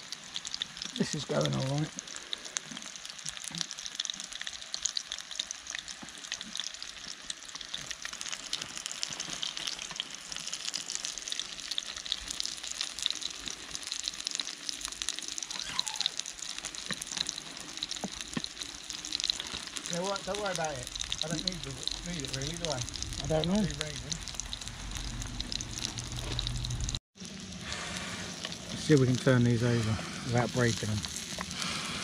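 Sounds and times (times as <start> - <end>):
burger patties sizzling in a pan: 0.0 - 32.0.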